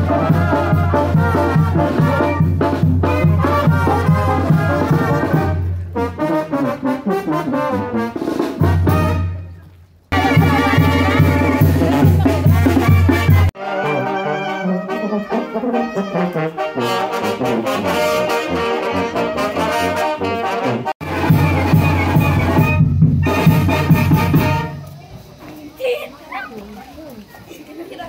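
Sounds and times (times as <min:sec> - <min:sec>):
trumpets and trombones: 0:00.0 - 0:25.0.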